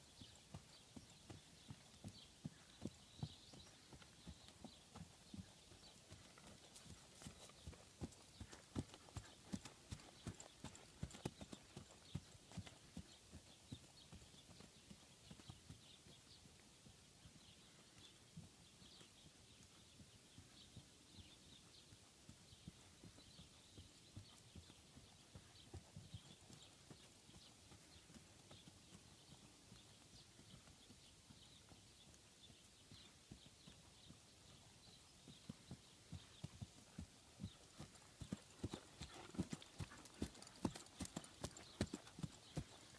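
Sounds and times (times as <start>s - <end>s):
horse hoofbeats on grass: 0.1s - 42.9s.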